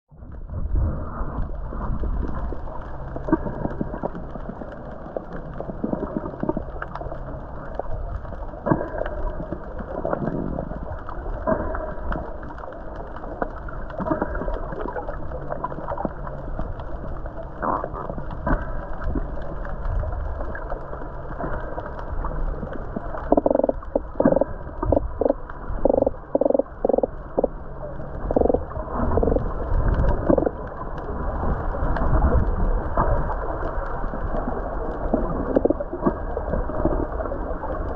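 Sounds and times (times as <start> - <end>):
low rumble: 0.1 - 37.9
underwater crackling clicks: 1.2 - 37.9.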